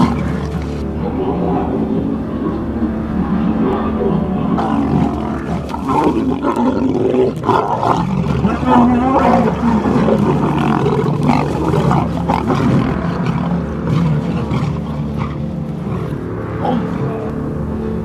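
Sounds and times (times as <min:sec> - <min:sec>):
lions growling: 0:00.0 - 0:18.0.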